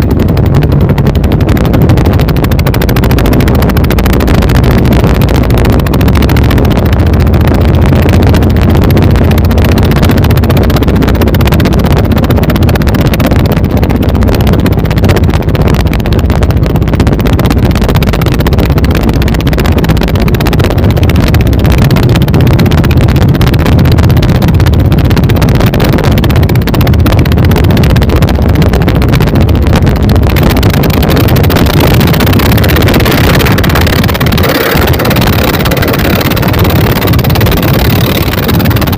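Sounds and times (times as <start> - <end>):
diesel boat engines droning: 0.0 - 38.9.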